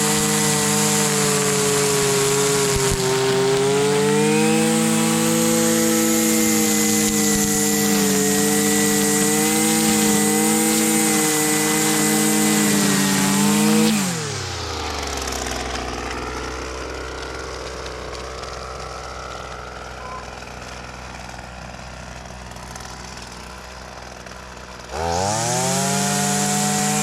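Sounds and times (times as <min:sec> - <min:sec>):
string trimmer engine running: 0:00.0 - 0:27.0.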